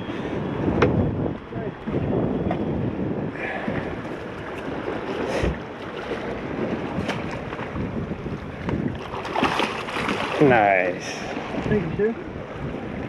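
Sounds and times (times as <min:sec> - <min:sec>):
water sloshing around boat: 0:00.0 - 0:13.0
wind buffeting microphone: 0:00.0 - 0:13.0.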